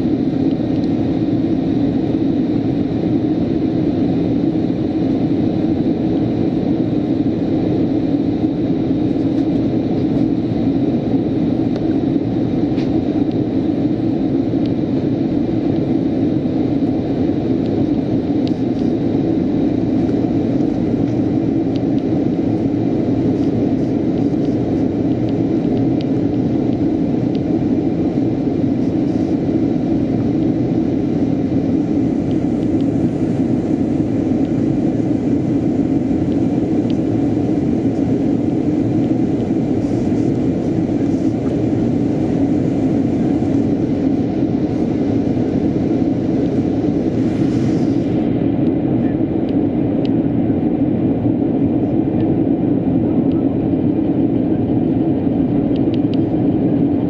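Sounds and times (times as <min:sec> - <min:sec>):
faint high whine: 0:00.0 - 0:57.0
low engine rumble in cabin: 0:00.0 - 0:57.0.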